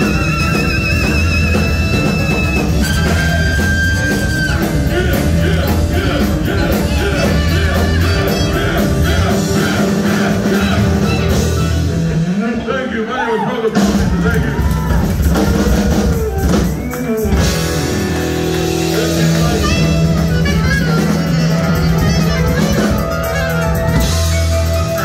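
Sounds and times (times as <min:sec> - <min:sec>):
saxophone notes: 0:00.0 - 0:12.1, 0:16.2 - 0:25.0
live rock band playing: 0:00.0 - 0:25.0.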